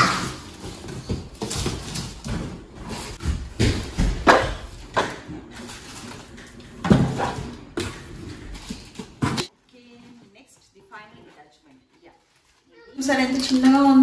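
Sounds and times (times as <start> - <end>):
cardboard and plastic rustling: 0.0 - 13.8.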